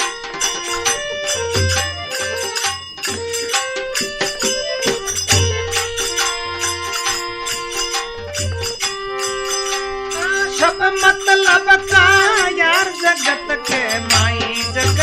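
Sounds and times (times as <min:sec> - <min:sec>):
held melody notes: 0:00.0 - 0:15.0
rapid jingling percussion: 0:00.0 - 0:15.0.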